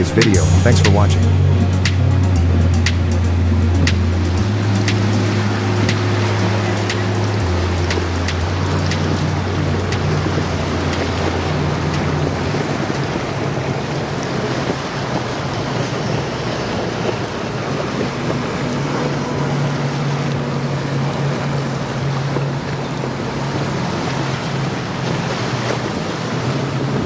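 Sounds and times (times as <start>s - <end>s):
outboard engines humming: 0.0s - 27.0s
water and spray rushing: 0.0s - 27.0s.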